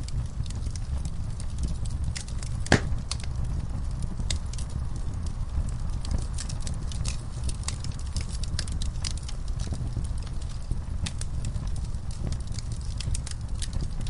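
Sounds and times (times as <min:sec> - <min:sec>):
fire crackling and snapping: 0:00.0 - 0:14.0
fire rumbling: 0:00.0 - 0:14.0.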